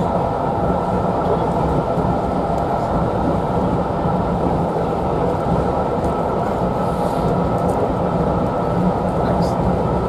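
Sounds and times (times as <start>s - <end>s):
train rumbling at speed: 0.0s - 10.0s.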